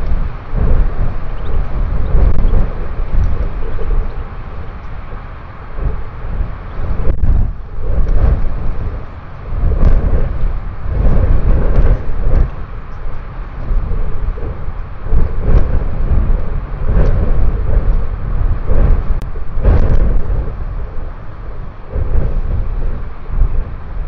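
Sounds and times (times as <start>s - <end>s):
wind gusting over microphone: 0.0s - 24.0s.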